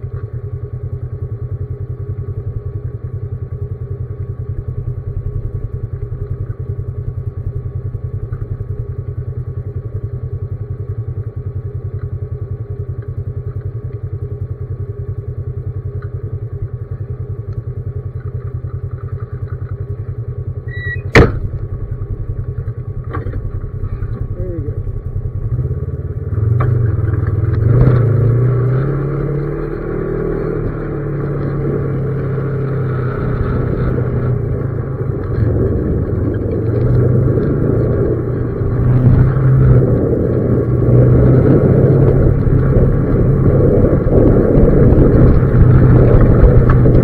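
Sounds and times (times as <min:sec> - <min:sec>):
off-road vehicle engine: 0:00.0 - 0:47.0
tyres on gravel track: 0:00.0 - 0:47.0.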